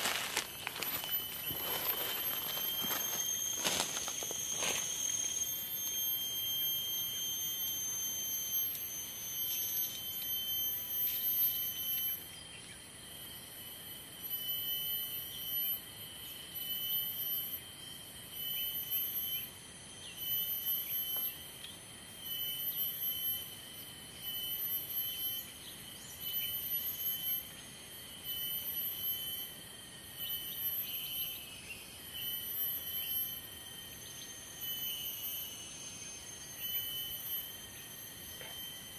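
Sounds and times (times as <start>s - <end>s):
shrill insect chorus: 0.0s - 38.9s.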